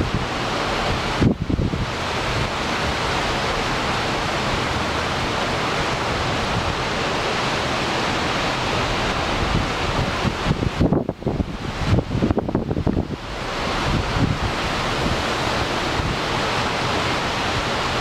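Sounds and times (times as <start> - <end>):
heavy rain pounding: 0.0 - 18.0
wind gusts buffeting microphone: 0.0 - 18.0.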